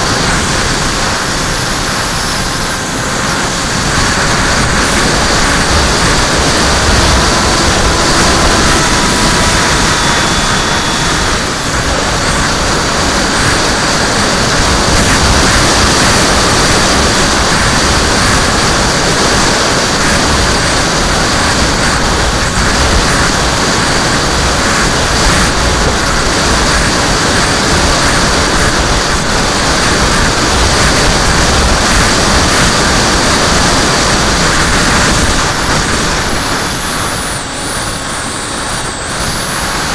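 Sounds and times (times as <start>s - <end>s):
electric motor and propeller buzz: 0.0s - 39.9s
wind rushing: 0.0s - 39.9s.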